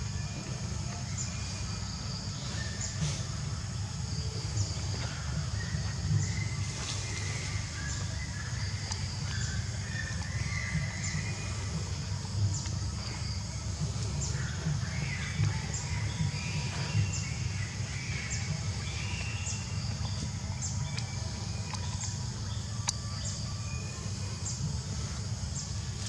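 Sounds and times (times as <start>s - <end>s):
birds chirping: 0.0s - 26.0s
steady high buzz: 0.0s - 26.0s.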